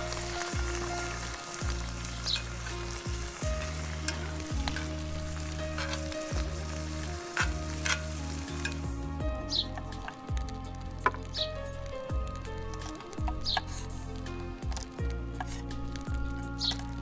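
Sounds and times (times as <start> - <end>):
background music low notes: 0.0 - 17.0
shrimp sizzling in sauce: 0.0 - 17.0.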